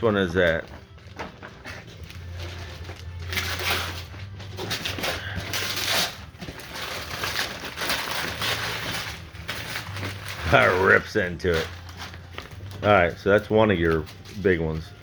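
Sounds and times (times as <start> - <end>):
wrapping paper tearing and crumpling: 0.0 - 15.0.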